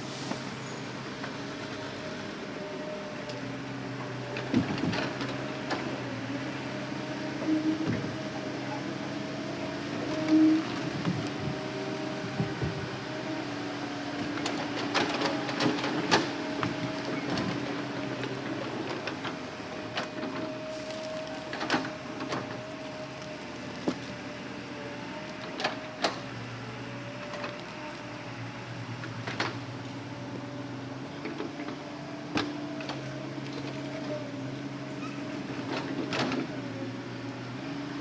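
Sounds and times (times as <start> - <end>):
excavator engine running: 0.0 - 38.0.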